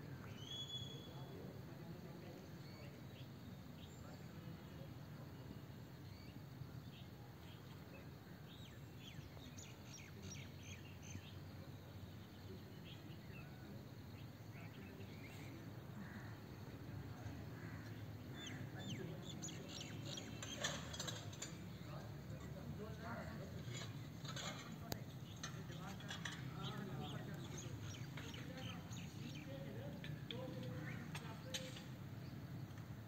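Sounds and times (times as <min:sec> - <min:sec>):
faint low outdoor rumble: 0:00.0 - 0:33.0
small birds chirping: 0:00.1 - 0:33.0.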